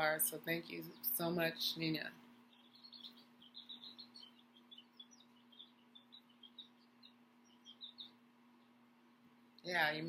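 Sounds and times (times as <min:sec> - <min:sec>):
bird chirping: 0:00.0 - 0:10.0
steady low hum: 0:00.0 - 0:10.0.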